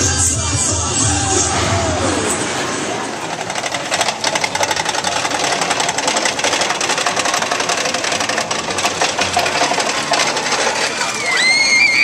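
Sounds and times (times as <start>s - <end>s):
rapid mechanical clattering: 0.0s - 12.0s
steady noisy background: 0.0s - 12.0s.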